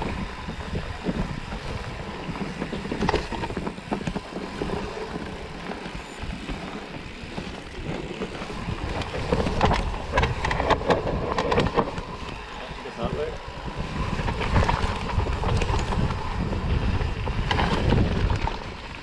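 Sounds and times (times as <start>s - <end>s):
bike rattling clicks: 0.0s - 19.0s
wind buffeting microphone: 0.0s - 19.0s.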